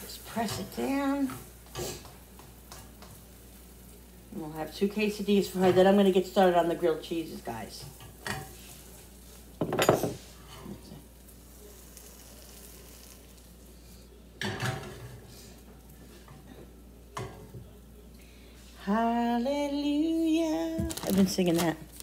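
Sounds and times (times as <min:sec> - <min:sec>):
faint sizzle in a pan: 0:00.0 - 0:22.0.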